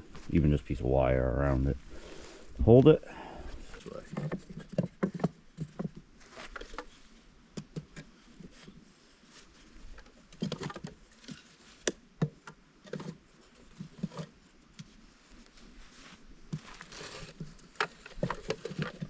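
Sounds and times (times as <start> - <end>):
hands handling wood and wire: 2.0 - 19.0.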